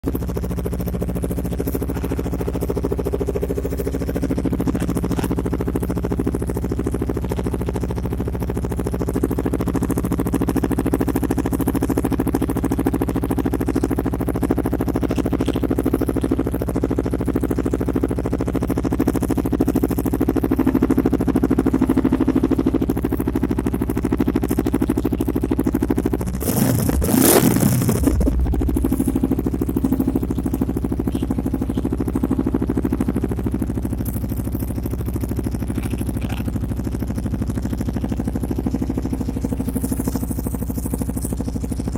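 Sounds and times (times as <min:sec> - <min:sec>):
motorcycle engine idling: 0:00.0 - 0:41.9
motorcycle engine revving: 0:00.0 - 0:41.9.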